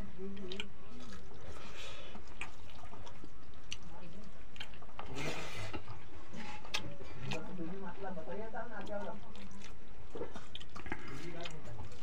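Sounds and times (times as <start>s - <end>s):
people chewing with mouth smacks: 0.0s - 12.0s.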